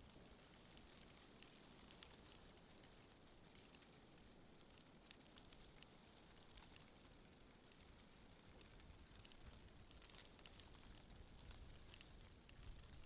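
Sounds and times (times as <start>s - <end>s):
light ticks and crackles: 0.0s - 13.0s.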